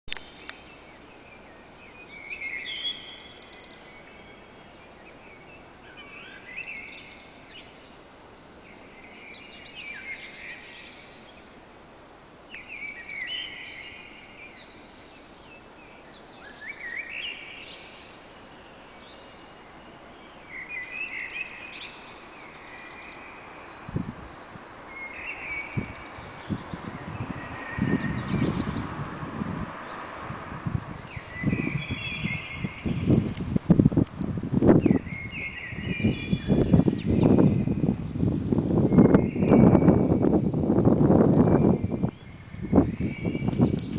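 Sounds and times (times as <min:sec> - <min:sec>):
bird song with trills: 0:00.1 - 0:11.7, 0:12.5 - 0:30.1, 0:30.8 - 0:34.1, 0:34.7 - 0:43.9.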